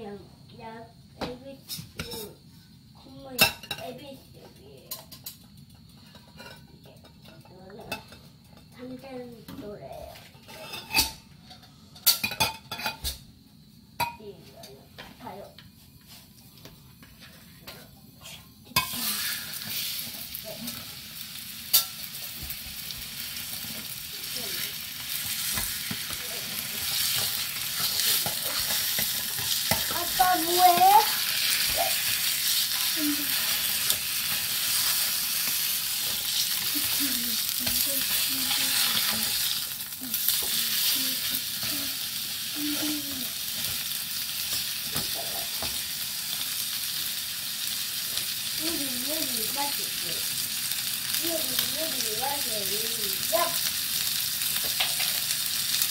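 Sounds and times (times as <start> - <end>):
steak sizzling in metal pot: 0.0 - 55.9.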